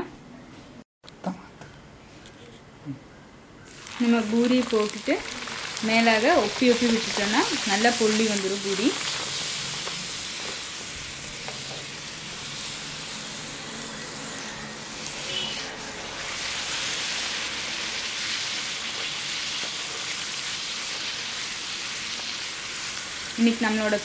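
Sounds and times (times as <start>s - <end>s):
dough sizzling in hot oil: 3.7s - 24.0s.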